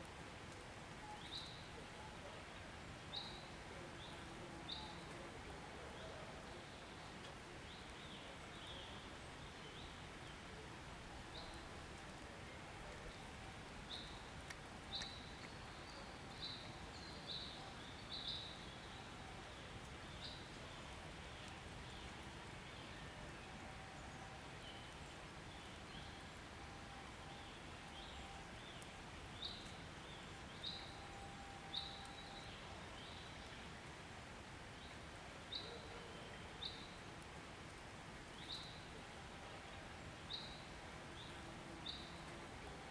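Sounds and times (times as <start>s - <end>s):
faint steady hiss: 0.0s - 42.9s.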